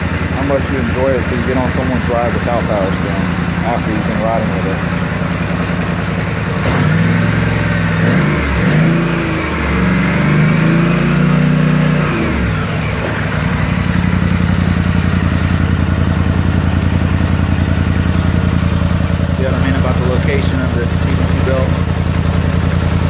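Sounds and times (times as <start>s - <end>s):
engine revving and idling: 0.0s - 23.0s.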